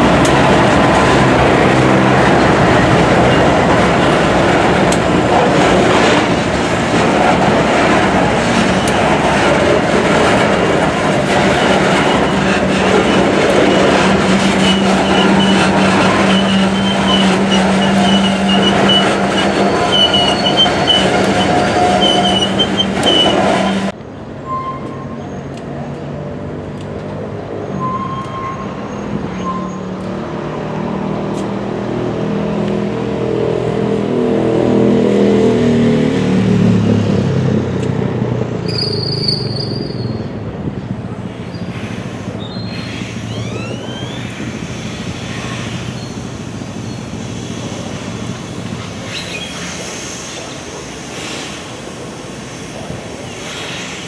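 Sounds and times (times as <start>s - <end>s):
diesel locomotive engine: 0.0s - 54.0s
railcars rumbling on rails: 0.0s - 54.0s.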